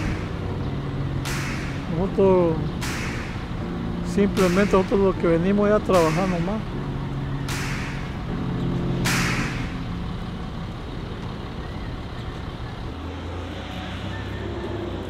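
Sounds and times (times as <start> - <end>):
steady low hum: 0.0 - 13.0
vehicle engine running: 0.0 - 15.0.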